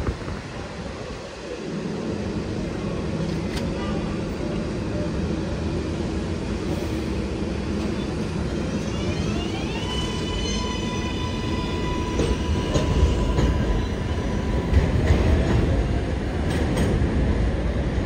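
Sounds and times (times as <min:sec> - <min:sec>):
standing train hum: 0:00.0 - 0:18.0.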